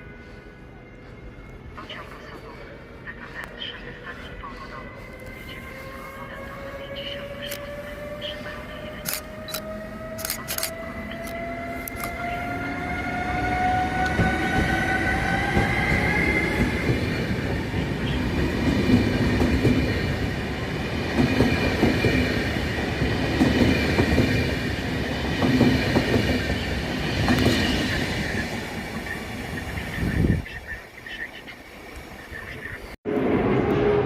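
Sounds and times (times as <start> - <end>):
train coaches rumbling past: 0.0 - 34.0.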